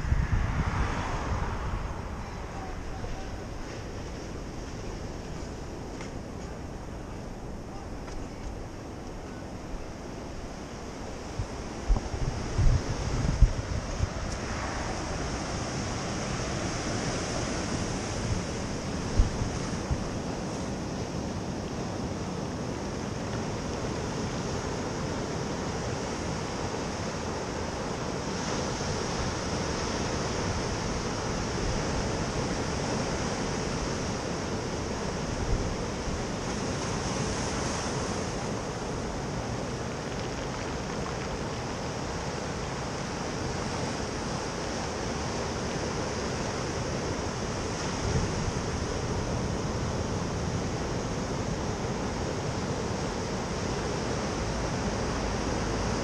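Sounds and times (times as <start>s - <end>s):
wind on microphone: 0.0s - 56.0s
waves breaking on pebble beach: 10.3s - 56.0s.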